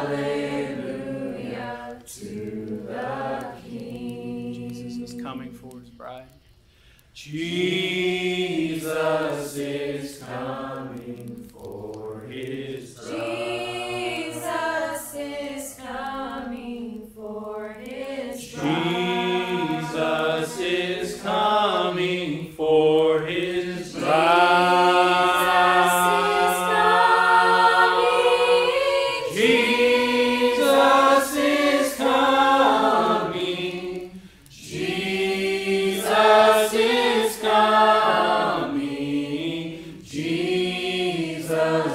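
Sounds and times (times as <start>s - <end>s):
group singing worship song: 0.0s - 5.9s, 6.7s - 41.9s.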